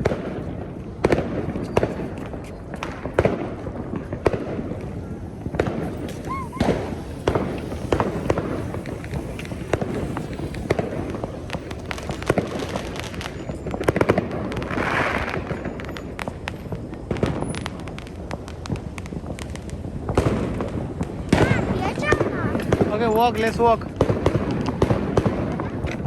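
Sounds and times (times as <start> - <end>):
distant fireworks bangs: 0.0 - 26.0
fireworks crackling: 0.0 - 26.0.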